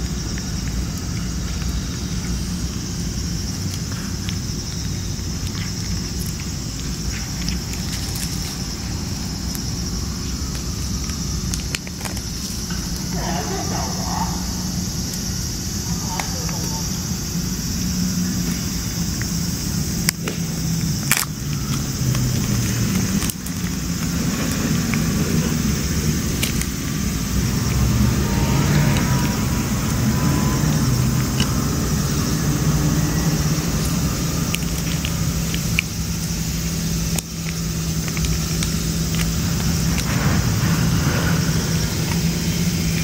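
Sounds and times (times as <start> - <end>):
steady low drone: 0.0 - 43.0.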